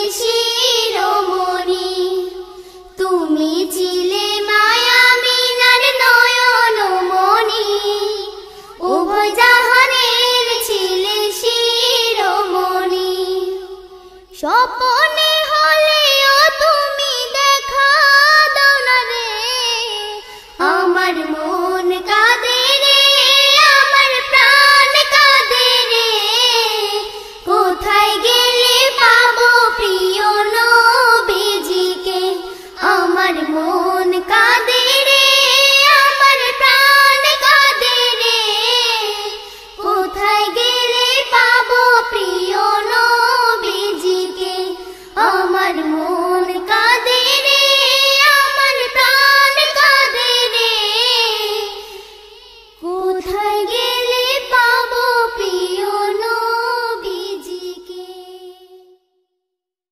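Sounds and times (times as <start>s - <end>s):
person singing devotional song: 0.0s - 59.1s.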